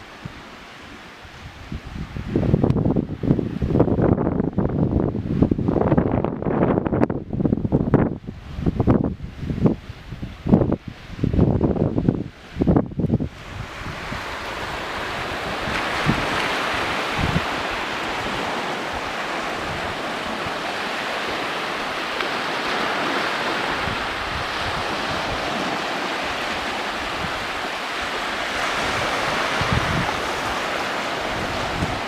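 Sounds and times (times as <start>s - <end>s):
sea surf washing on shore: 0.0s - 32.0s
wind buffeting microphone: 0.0s - 32.0s.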